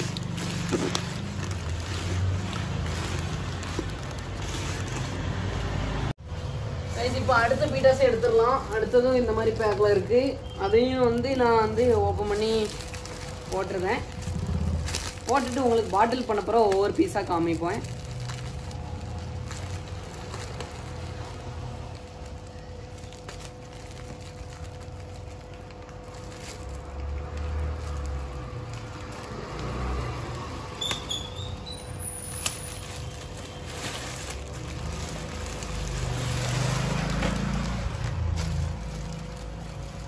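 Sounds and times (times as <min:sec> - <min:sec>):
plastic bag rustling: 0:00.0 - 0:40.0.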